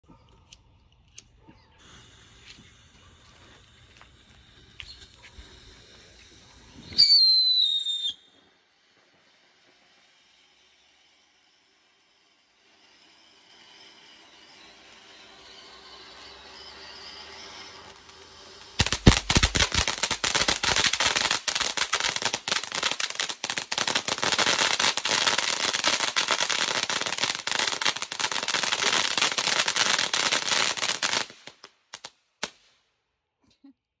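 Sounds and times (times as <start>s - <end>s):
firework fountain crackling: 1.8s - 32.7s.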